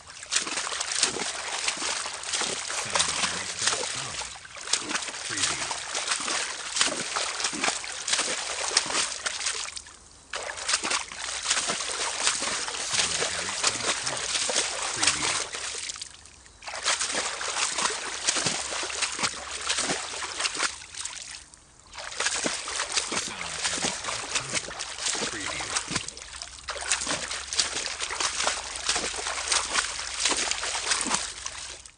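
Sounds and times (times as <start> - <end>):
footsteps splashing through water: 0.0 - 31.9.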